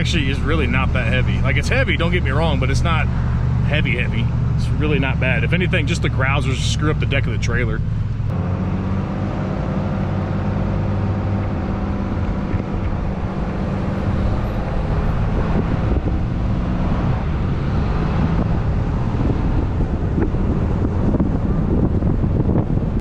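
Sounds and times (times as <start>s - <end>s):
diesel engine drone: 0.0s - 23.0s
road noise: 0.0s - 23.0s.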